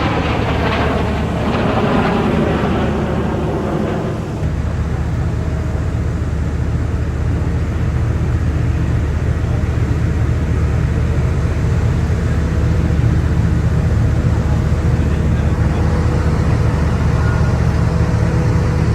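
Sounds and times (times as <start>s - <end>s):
jet engine roar: 0.0s - 18.9s.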